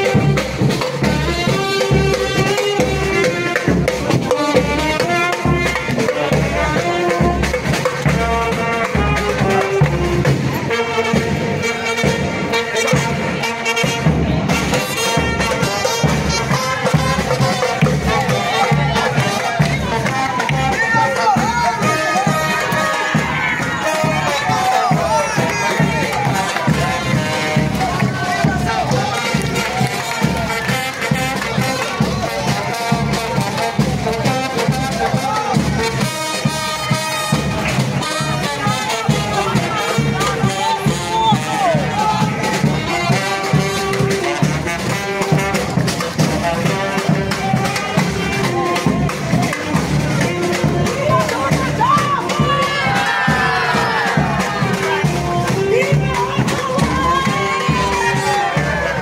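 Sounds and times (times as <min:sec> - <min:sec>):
bass drum beat: 0:00.0 - 0:59.0
brass band music: 0:00.0 - 0:59.0
crowd voices: 0:00.0 - 0:59.0
saxophone: 0:00.0 - 0:59.0
trumpets: 0:00.0 - 0:59.0.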